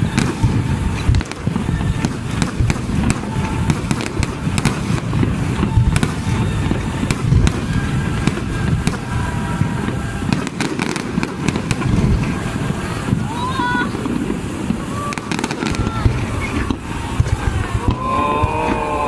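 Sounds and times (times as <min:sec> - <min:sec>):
fireworks booming and crackling: 0:00.0 - 0:19.0.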